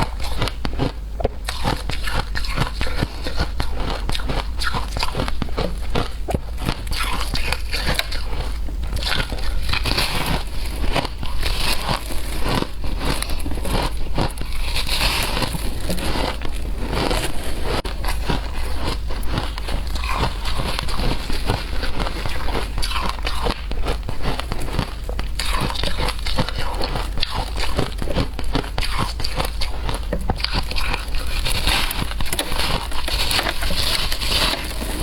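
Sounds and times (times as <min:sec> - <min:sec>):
person chewing shaved ice: 0:00.0 - 0:35.0.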